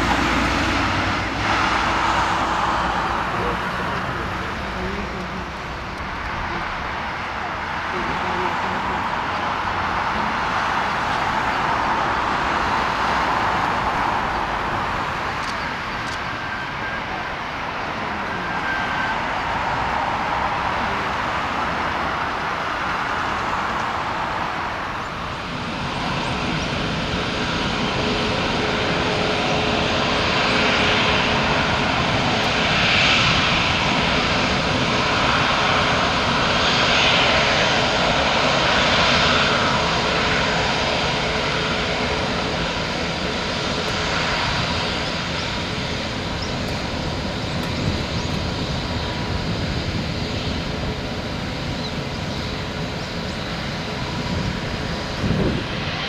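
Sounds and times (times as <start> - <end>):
jet engines hissing and humming: 0.0 - 56.0
jet engines whooshing: 0.0 - 56.0.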